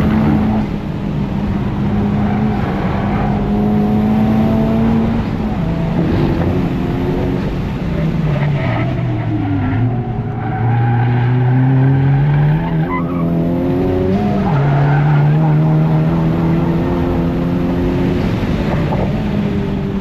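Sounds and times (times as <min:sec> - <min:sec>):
car engine revving hard: 0:00.0 - 0:09.0, 0:10.5 - 0:19.6.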